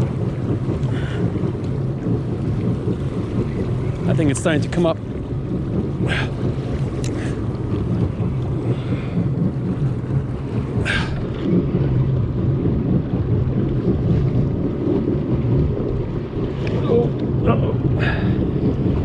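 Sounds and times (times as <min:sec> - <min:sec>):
steady low rumble: 0:00.0 - 0:19.0
water splashing against jet ski: 0:00.0 - 0:19.0
wind buffeting microphone: 0:00.0 - 0:19.0.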